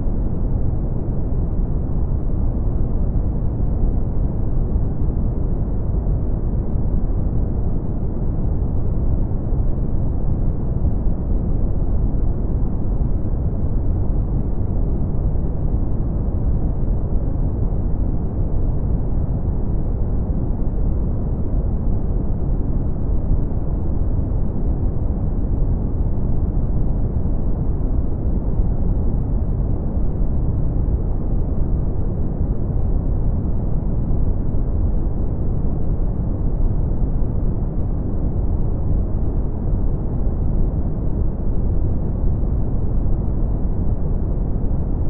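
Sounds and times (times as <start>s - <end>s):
deep steady brown noise hiss: 0.0s - 45.0s.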